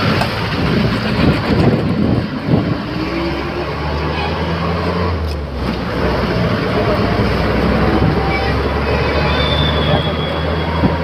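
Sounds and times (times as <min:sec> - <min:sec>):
bus body rattling: 0:00.0 - 0:11.0
bus engine pulling away: 0:00.0 - 0:11.0.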